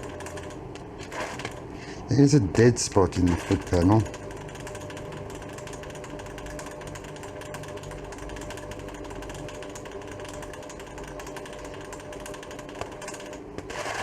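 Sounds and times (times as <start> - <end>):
sewing machine mechanical chatter: 0.0 - 1.6, 2.2 - 14.0
motor hum: 0.0 - 14.0.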